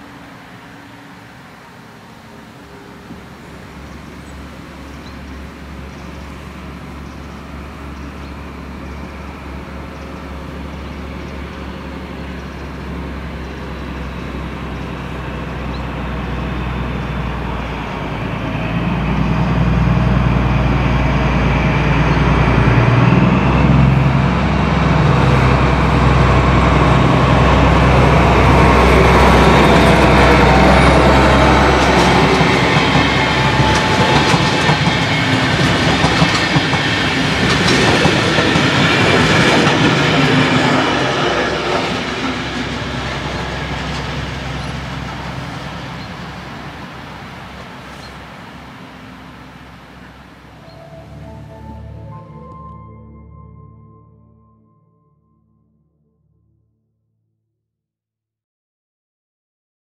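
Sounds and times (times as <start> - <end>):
wheel and rail noise: 0.0 - 52.6
diesel locomotive engine hum: 0.0 - 54.6.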